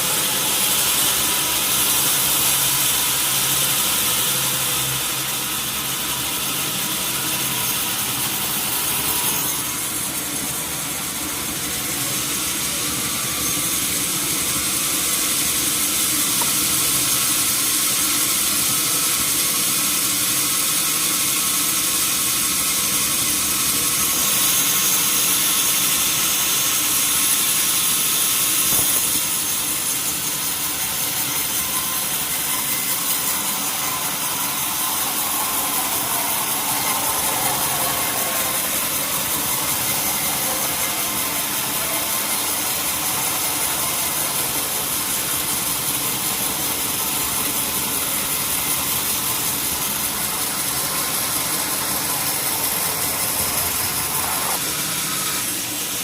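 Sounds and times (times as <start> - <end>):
sawmill saw and engine running: 0.0 - 56.0.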